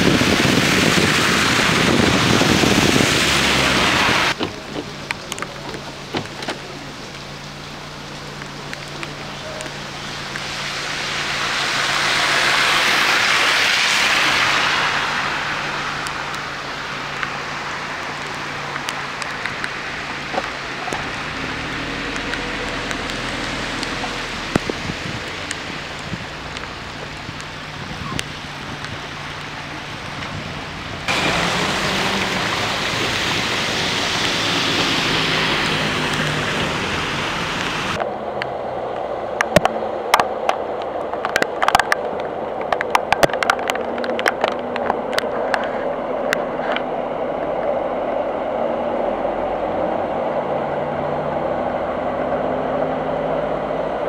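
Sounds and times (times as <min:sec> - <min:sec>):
car tyres hissing on wet road: 0:00.0 - 0:54.0
rain on wet street: 0:00.0 - 0:54.0.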